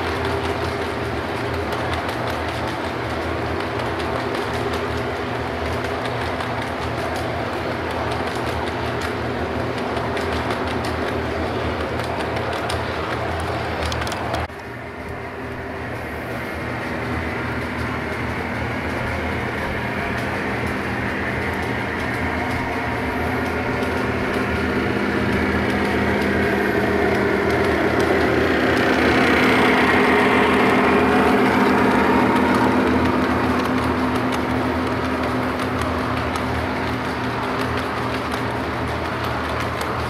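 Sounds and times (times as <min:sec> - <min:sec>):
model train running on track: 0:00.0 - 0:40.0.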